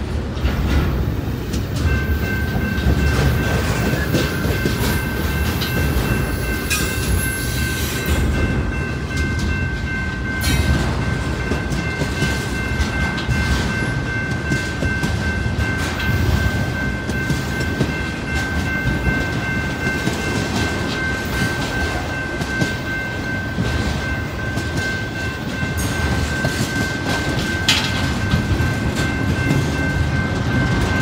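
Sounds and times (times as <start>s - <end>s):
freight train wheels rumbling: 0.0s - 31.0s
wheels clacking over rail joints: 0.2s - 31.0s
high ringing tone: 1.8s - 31.0s.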